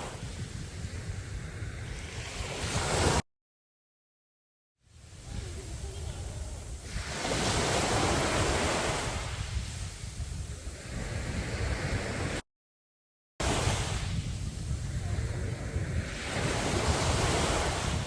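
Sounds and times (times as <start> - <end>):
sea waves breaking on a beach: 0.0 - 3.2, 4.9 - 12.4, 13.4 - 18.0.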